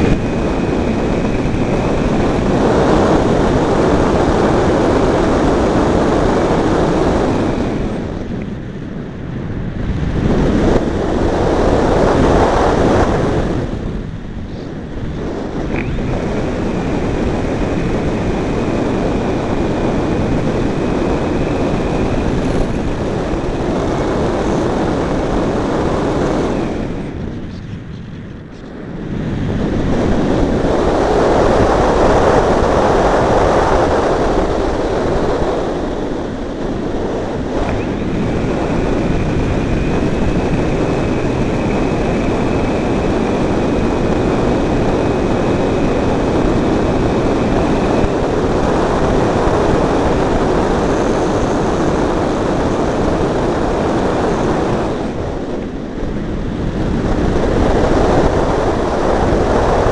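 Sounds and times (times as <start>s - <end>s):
model plane motor whine: 0.0s - 8.8s, 9.6s - 27.6s, 29.3s - 59.9s
wind noise on microphone: 0.0s - 59.9s.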